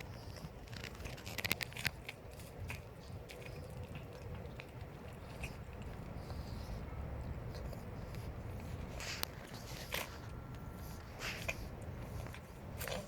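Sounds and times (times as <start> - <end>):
cat chewing with crunching clicks: 0.0 - 13.0
steady low rumble: 2.2 - 13.0.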